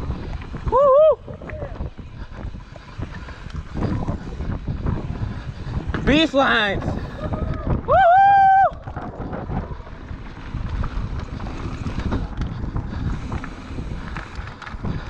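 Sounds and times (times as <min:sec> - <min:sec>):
tyres rolling over dirt trail: 0:00.0 - 0:15.0
wind buffeting microphone: 0:00.0 - 0:15.0.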